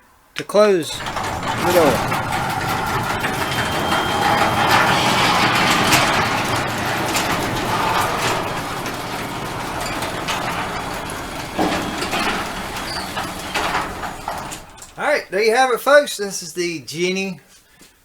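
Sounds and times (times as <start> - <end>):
garage door opener running: 0.9 - 15.4.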